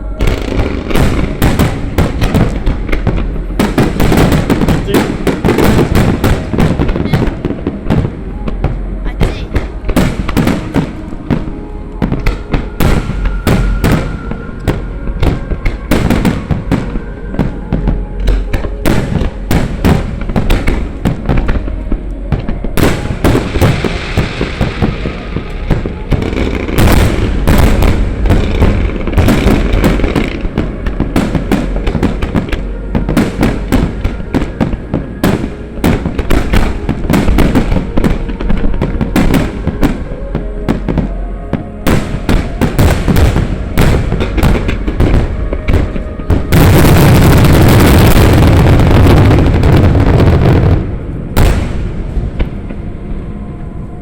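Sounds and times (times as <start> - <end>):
fireworks crackling: 0.0 - 52.8.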